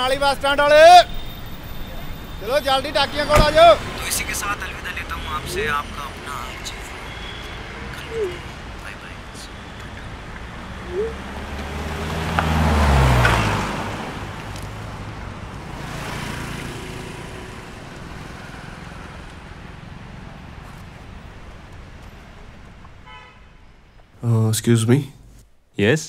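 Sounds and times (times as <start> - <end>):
vehicle passing: 0.0 - 24.0
steady traffic noise: 0.0 - 25.9.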